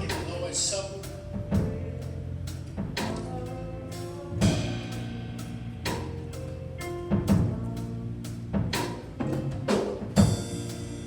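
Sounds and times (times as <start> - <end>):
drum kit hits: 0.0 - 3.5, 4.4 - 7.8, 8.5 - 11.0
sustained keyboard chords: 0.0 - 11.0.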